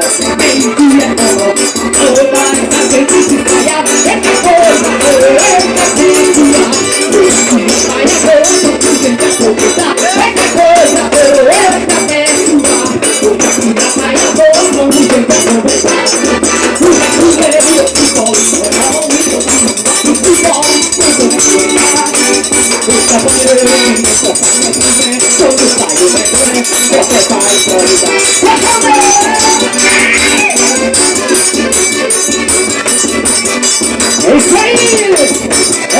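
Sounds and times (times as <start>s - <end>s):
fast percussion ticking: 0.0s - 35.9s
wandering melody line: 0.0s - 35.9s.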